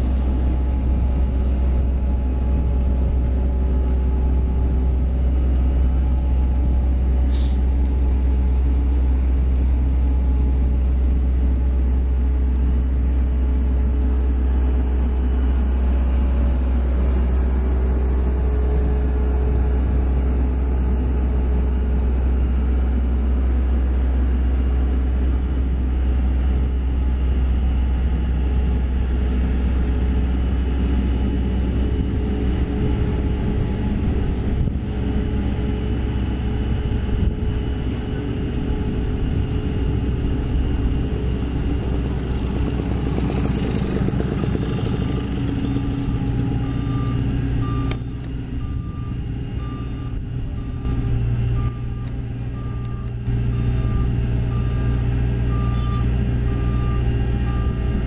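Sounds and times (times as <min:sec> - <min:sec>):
road roller diesel engines rumbling: 0:00.0 - 0:58.0.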